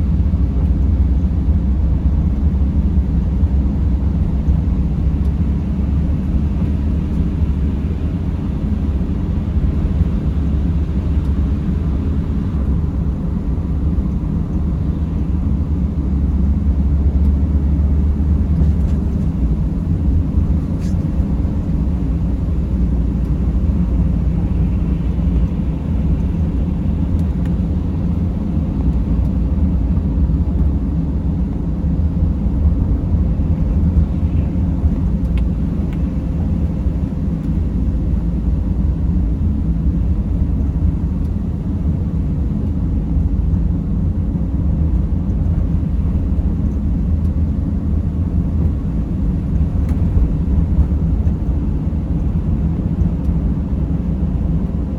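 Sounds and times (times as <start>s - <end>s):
van engine and road rumble: 0.0s - 54.9s.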